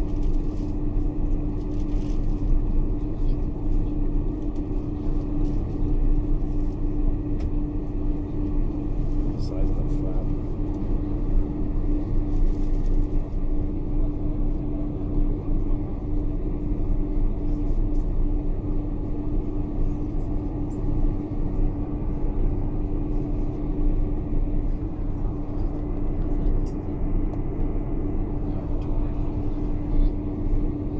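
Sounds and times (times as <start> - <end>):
airplane cabin rumble and hum: 0.0 - 30.9.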